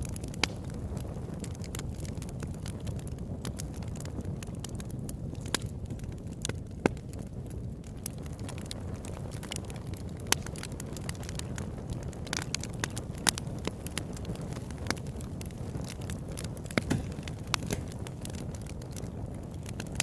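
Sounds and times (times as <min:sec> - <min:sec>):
campfire crackling and popping: 0:00.0 - 0:20.0
low fire rumble: 0:00.0 - 0:20.0.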